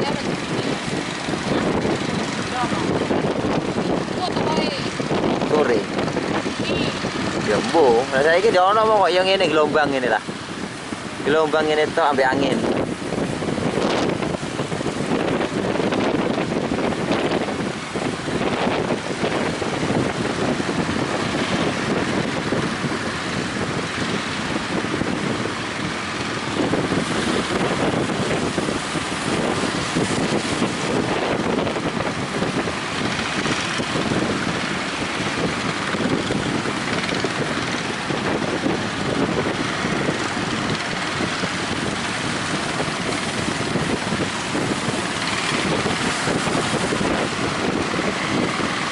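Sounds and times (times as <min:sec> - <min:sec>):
surf on the shore: 0:00.0 - 0:48.9
wind buffeting microphone: 0:00.0 - 0:48.9.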